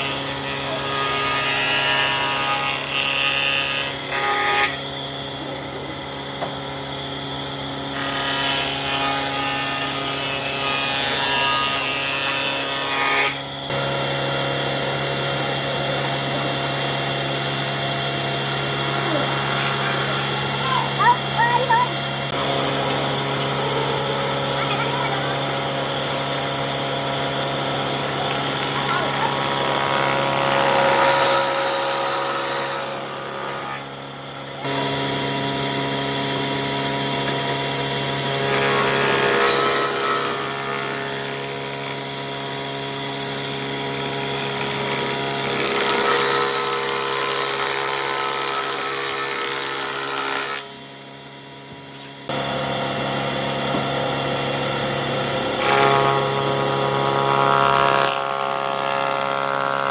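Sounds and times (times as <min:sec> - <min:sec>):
wood cutting or sanding: 0:00.0 - 0:50.8, 0:52.3 - 0:59.9
power tool motor humming: 0:00.0 - 0:59.9.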